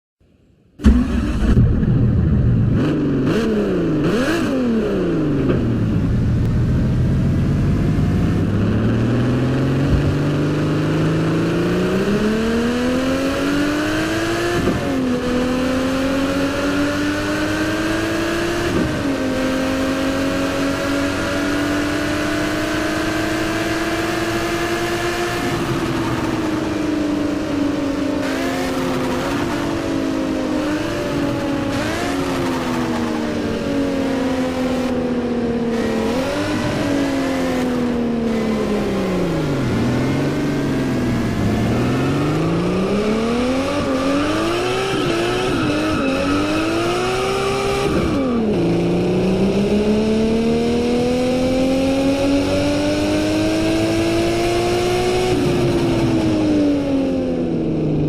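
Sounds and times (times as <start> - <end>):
sports car engine revving: 0.8 - 58.0.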